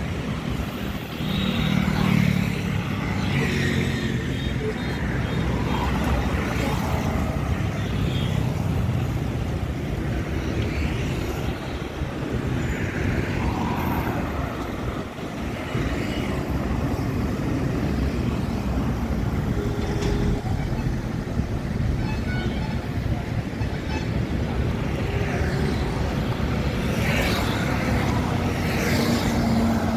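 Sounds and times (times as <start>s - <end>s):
cars and motorcycles passing: 0.0s - 22.0s, 22.6s - 29.9s
low rumble of road traffic: 0.0s - 29.9s.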